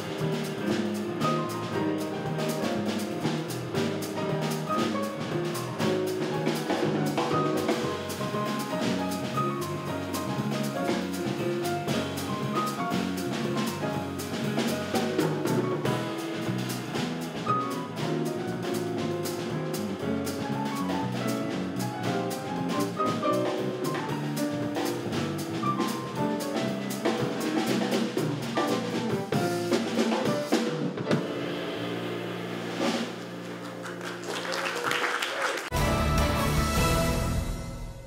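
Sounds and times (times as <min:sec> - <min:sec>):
drum kit cymbals and drums: 0:00.0 - 0:33.4, 0:35.7 - 0:38.0
bass guitar: 0:00.0 - 0:33.9, 0:35.7 - 0:38.0
grand piano: 0:00.0 - 0:38.0.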